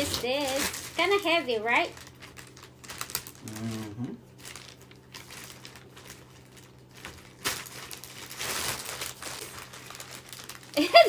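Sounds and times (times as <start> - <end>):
parcel wrapping rustling: 0.0 - 11.0.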